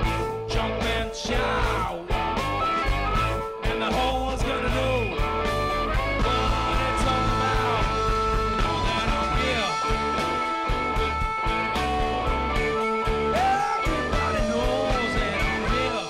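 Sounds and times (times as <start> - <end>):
bass guitar: 0.0 - 16.0
electric guitars: 0.0 - 16.0
steady drum beat: 0.0 - 16.0
amplified harmonica: 1.8 - 16.0.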